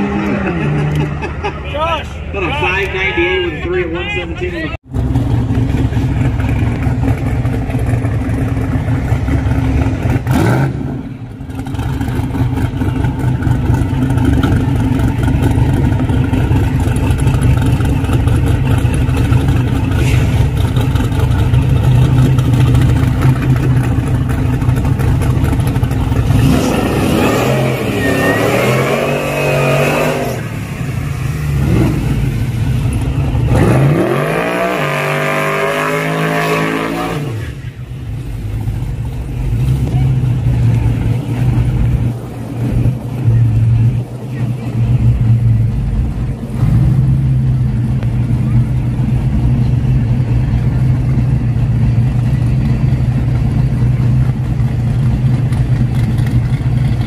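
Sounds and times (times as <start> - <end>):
truck engine rumbling and revving: 0.0 - 57.0.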